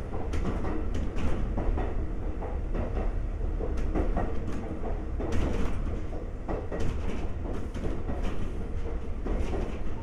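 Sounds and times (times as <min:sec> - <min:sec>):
railcar wheels rumbling: 0:00.0 - 0:10.0
track knocks and clicks: 0:00.0 - 0:10.0.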